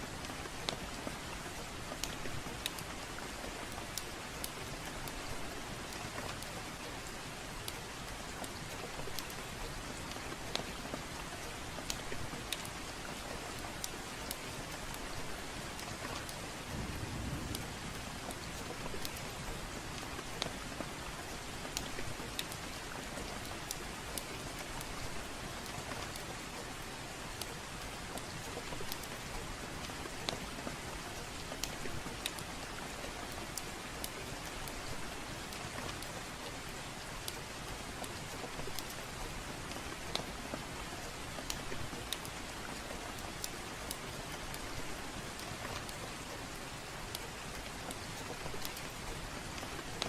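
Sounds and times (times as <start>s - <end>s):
fireplace fire crackling: 0.0s - 50.0s
steady rainfall: 0.0s - 50.0s.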